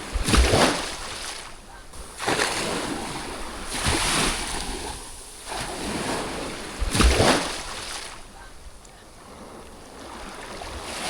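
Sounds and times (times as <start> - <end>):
sea waves on beach: 0.0 - 11.0.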